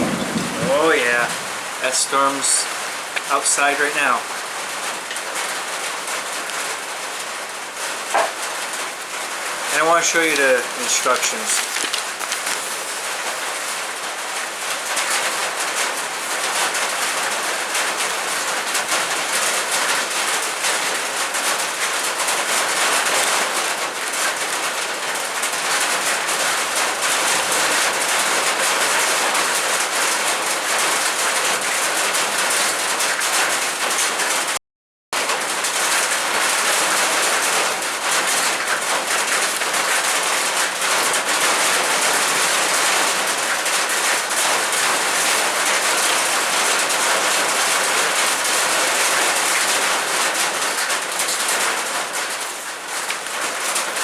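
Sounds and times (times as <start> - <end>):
heavy rain on roof: 0.0 - 34.6, 35.2 - 54.0.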